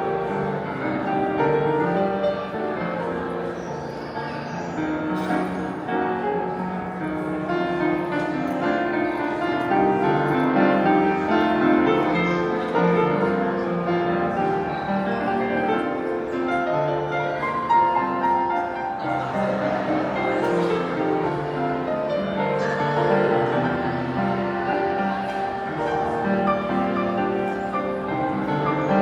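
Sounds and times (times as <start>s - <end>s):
gentle piano music: 0.0s - 29.0s.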